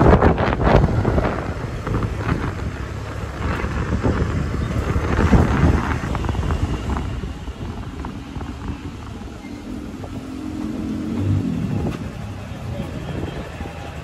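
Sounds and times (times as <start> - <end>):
motorcycle engine: 0.0 - 14.0
road noise: 0.0 - 14.0
wind rushing over microphone: 0.0 - 14.0.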